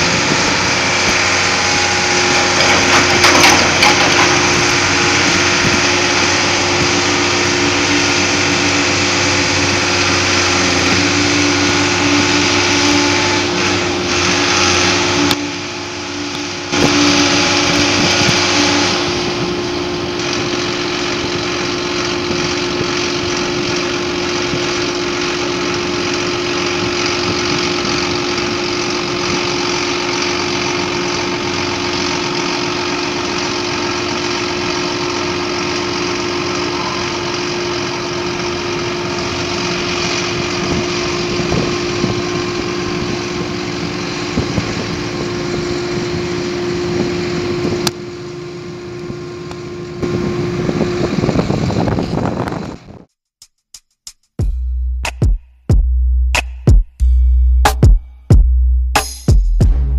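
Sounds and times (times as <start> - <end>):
crane machinery hum: 0.0 - 53.1.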